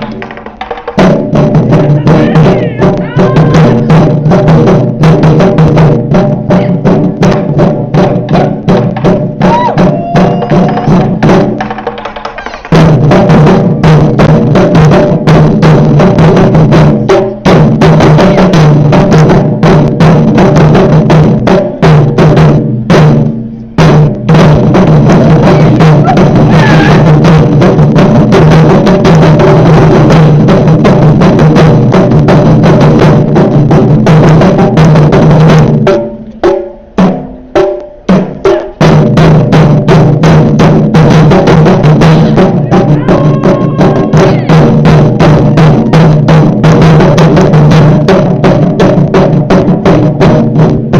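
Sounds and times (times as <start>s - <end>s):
taiko drums playing: 0.0s - 50.9s.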